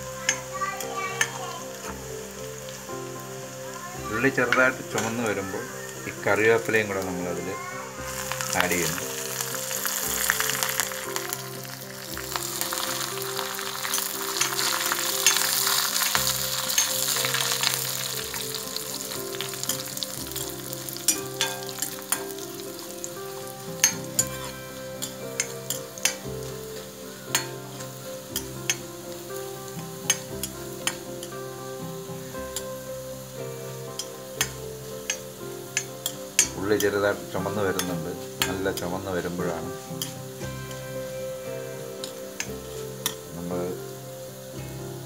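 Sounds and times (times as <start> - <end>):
food sizzling in hot oil: 0.0 - 45.0.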